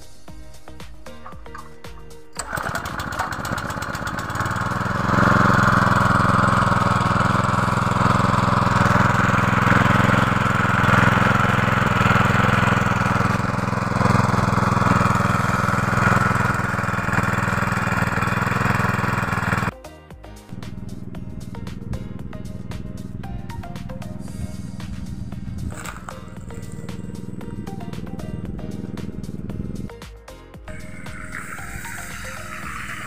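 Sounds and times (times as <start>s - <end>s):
small water pump engine running: 1.2s - 19.8s, 20.5s - 30.0s, 30.7s - 33.0s.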